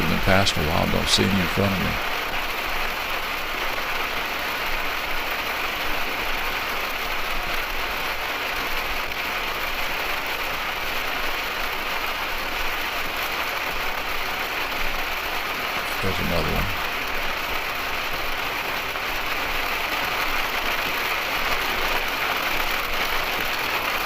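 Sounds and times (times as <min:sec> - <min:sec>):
heavy rain on windshield: 0:00.0 - 0:24.0.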